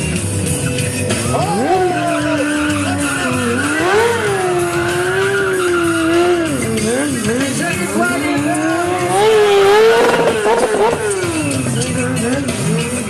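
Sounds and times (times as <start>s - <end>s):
tyre and road noise: 0.0s - 13.0s
motorcycle engine revving hard: 0.7s - 13.0s.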